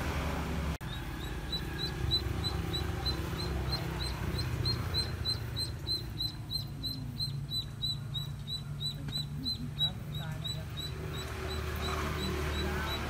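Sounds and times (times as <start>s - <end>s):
low steady rumble: 0.0s - 13.0s
duckling peeping: 0.8s - 13.0s.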